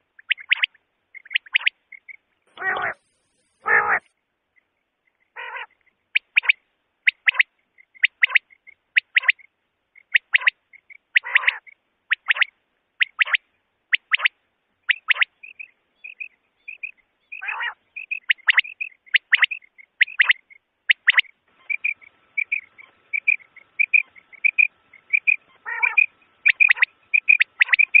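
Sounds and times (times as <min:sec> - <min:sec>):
quail calling: 0:00.0 - 0:04.1, 0:05.2 - 0:28.0.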